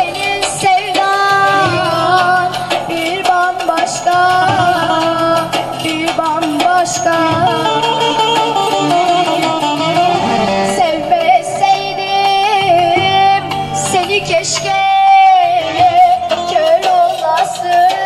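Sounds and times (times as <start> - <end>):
plucked strings: 0.0 - 18.0.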